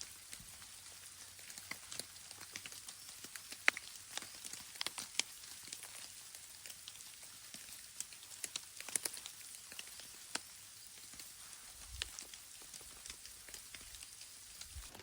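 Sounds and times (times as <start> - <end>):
faint steady hiss: 0.0 - 15.0
raindrops ticking on a surface: 0.0 - 15.0.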